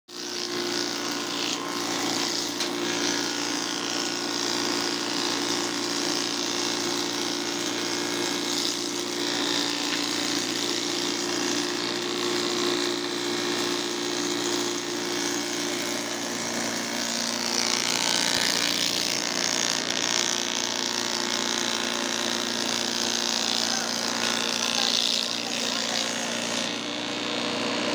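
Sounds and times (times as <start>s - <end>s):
cutting wood: 0.1s - 27.9s
woodworking machine motor hum: 0.1s - 27.9s.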